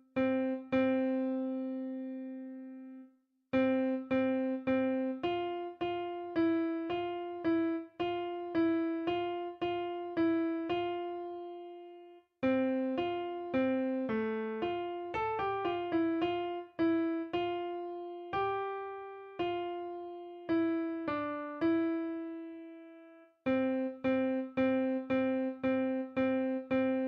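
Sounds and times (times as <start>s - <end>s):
electric piano melody: 0.0s - 3.0s, 3.6s - 27.0s.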